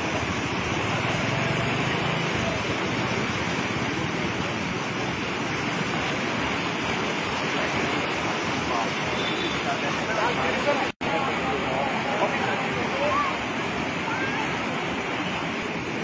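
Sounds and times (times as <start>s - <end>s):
floodwater rushing through channel: 0.0s - 16.0s.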